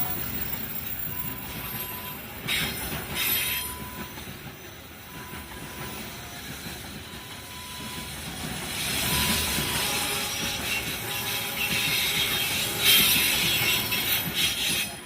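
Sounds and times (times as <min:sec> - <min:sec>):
freight train cars rumbling: 0:00.0 - 0:15.0
train wheel squeal: 0:00.0 - 0:15.0.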